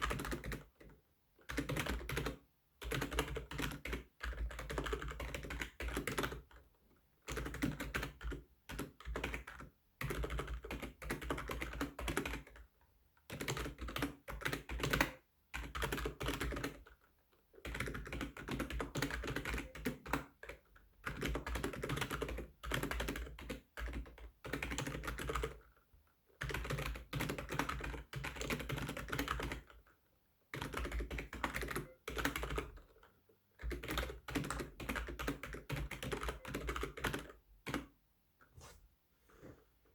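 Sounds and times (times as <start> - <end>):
fast typing on keyboard: 0.0 - 6.6, 7.3 - 12.7, 13.3 - 25.8, 26.4 - 29.9, 30.5 - 37.9.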